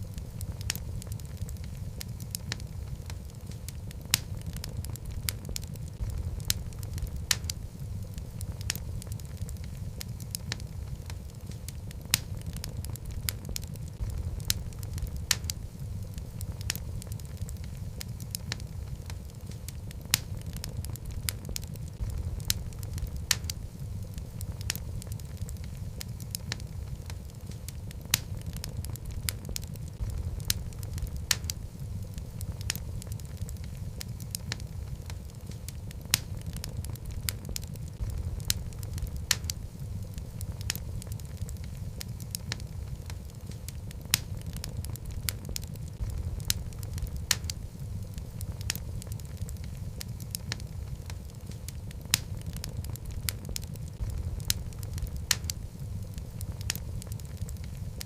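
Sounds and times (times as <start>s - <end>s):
flames rumbling: 0.0s - 58.0s
wood crackling and popping: 0.0s - 58.0s.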